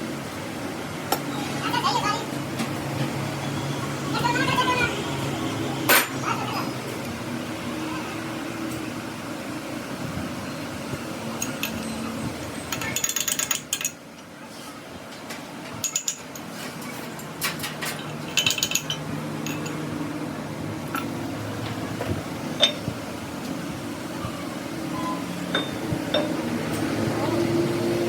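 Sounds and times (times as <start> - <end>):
workshop machine humming: 0.0 - 28.0.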